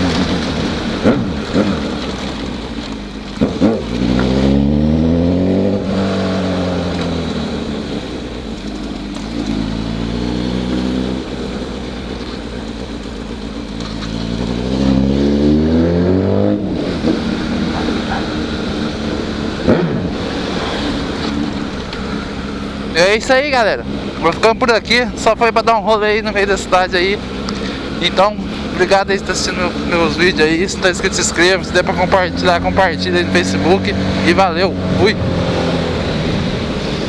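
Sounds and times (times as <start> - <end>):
motorcycle engine accelerating: 0.0 - 37.0
wind and road rush: 0.0 - 37.0.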